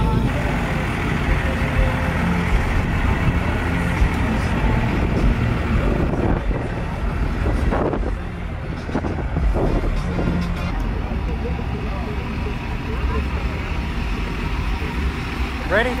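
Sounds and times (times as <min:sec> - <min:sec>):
pickup truck engine rumbling past: 0:00.0 - 0:16.0.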